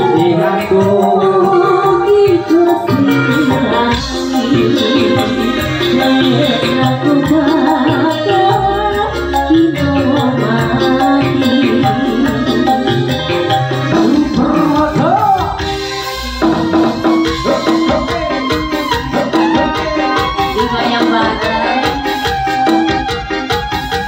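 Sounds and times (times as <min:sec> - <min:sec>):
live band music through speakers: 0:00.0 - 0:24.0.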